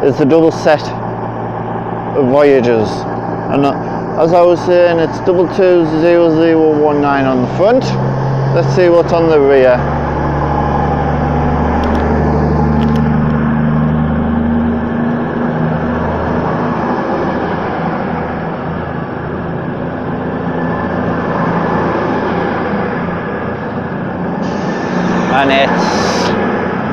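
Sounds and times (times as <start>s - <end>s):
diesel train engine drone: 0.0s - 26.9s.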